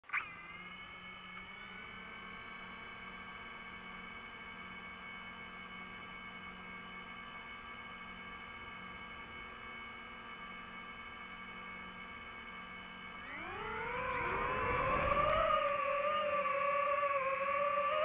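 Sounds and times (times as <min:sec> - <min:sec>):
drone motors whining: 0:00.1 - 0:18.0.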